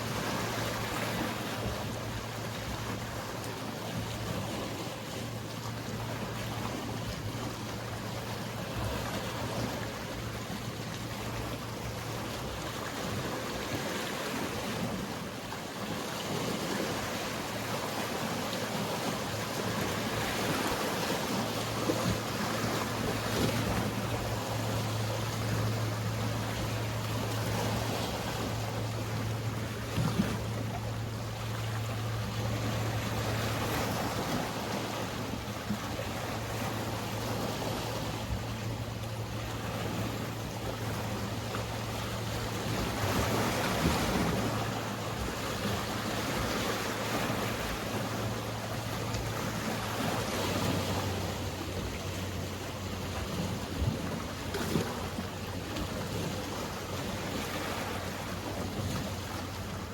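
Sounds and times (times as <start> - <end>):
boat engine hum: 0.0 - 59.9
sea waves washing: 0.0 - 59.9.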